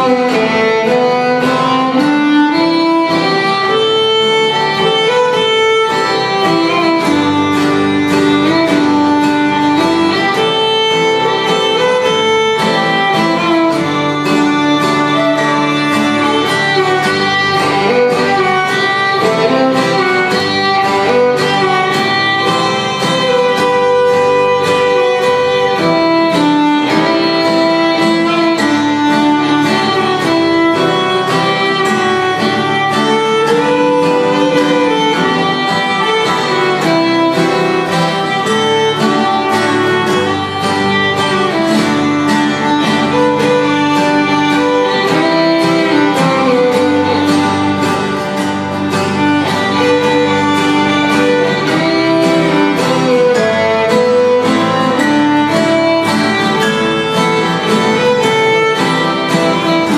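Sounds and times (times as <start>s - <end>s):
acoustic guitars strumming: 0.0s - 59.9s
fiddle playing lively tune: 0.0s - 59.9s.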